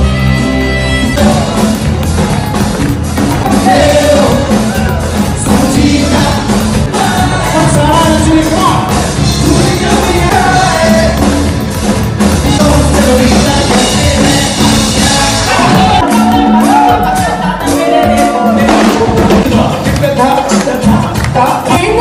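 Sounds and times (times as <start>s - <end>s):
heavy bass: 0.0s - 22.0s
loud music with singing: 0.0s - 22.0s.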